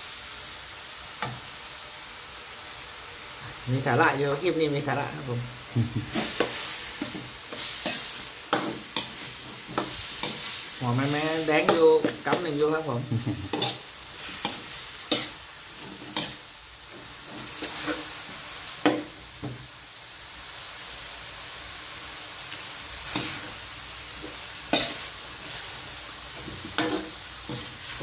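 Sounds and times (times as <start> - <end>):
meat sizzling in a wok: 0.0 - 28.0.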